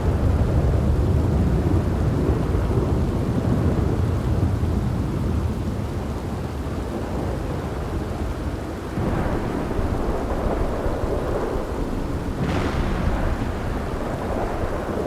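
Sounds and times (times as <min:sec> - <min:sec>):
low rolling thunder: 0:00.0 - 0:15.0
steady rain: 0:00.0 - 0:15.0.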